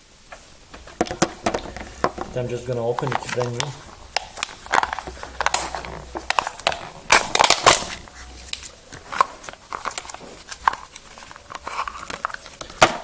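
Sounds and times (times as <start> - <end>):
packaging crackling and crinkling: 0.3 - 13.0.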